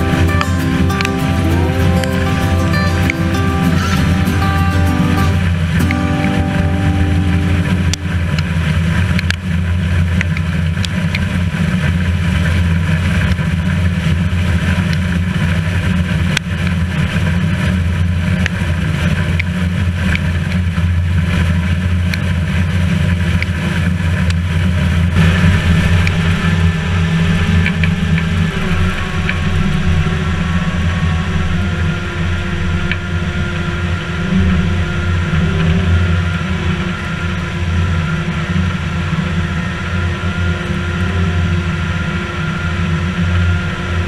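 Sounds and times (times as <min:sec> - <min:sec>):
combine harvester droning: 0:00.0 - 0:44.0.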